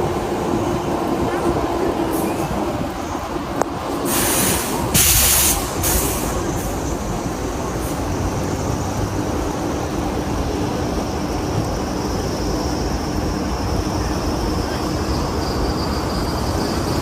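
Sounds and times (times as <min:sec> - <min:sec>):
floodwater rushing roar: 0:00.0 - 0:17.0.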